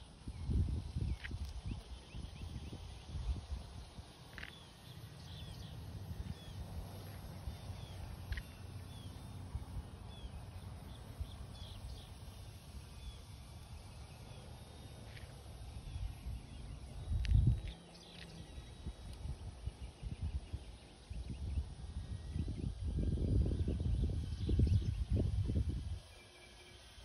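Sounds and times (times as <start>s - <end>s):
wind rumble on microphone: 0.0s - 26.2s
small birds chirping: 0.1s - 27.0s.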